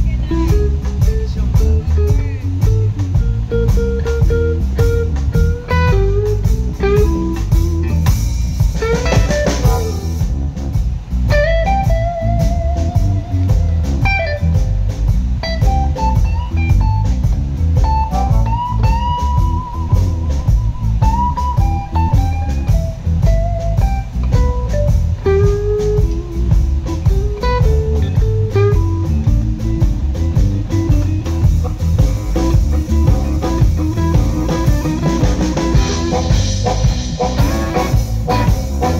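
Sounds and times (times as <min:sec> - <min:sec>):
drum kit: 0:00.0 - 0:38.9
electric bass: 0:00.0 - 0:38.9
electric guitar lead: 0:00.0 - 0:38.9.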